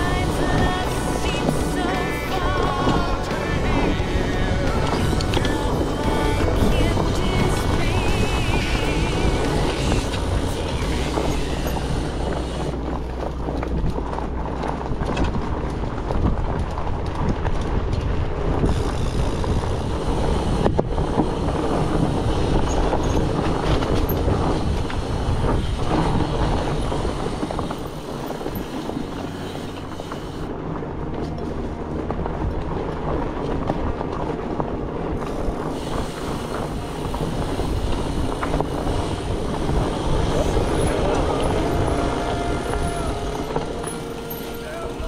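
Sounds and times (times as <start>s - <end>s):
bike rattle and tyre noise: 0.0s - 45.0s.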